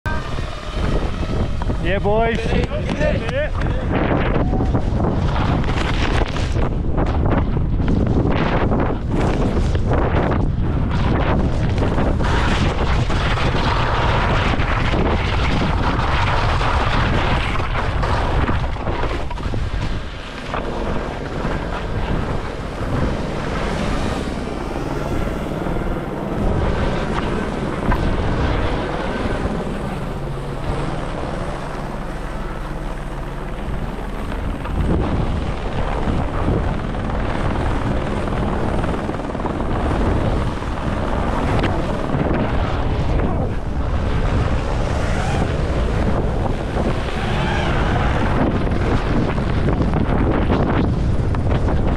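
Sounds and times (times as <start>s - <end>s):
drone propellers buzzing: 0.0s - 51.9s.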